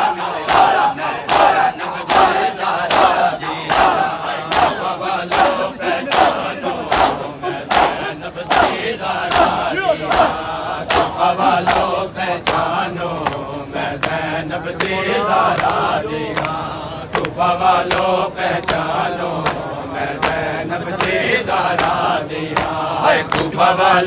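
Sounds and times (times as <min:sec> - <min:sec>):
crowd slapping chests in unison: 0:00.0 - 0:24.0
men chanting: 0:00.0 - 0:24.0.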